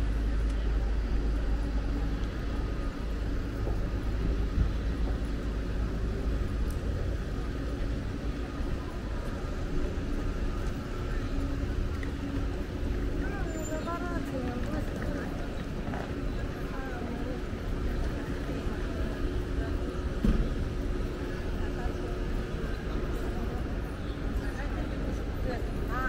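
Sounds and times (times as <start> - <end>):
faint voices: 0.0 - 26.0
low rumble of vehicles: 0.0 - 26.0.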